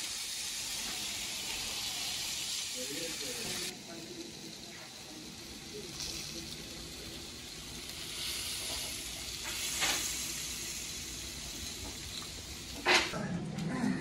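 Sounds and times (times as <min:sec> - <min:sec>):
meat sizzling on a grill: 0:00.0 - 0:13.2.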